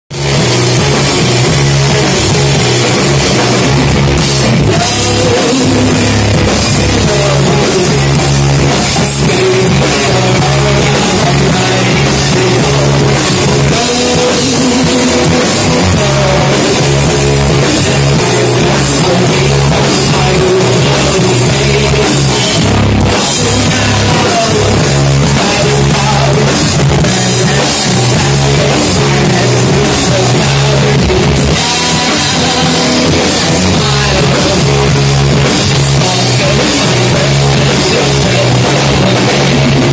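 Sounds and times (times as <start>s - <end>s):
heavy rock band playing: 0.1s - 39.9s.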